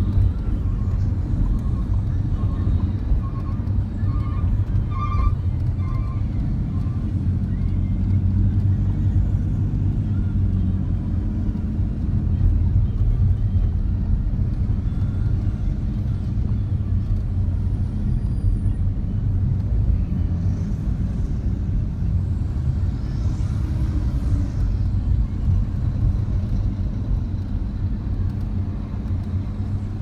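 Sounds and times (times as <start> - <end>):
truck engine rumble: 0.0 - 30.0.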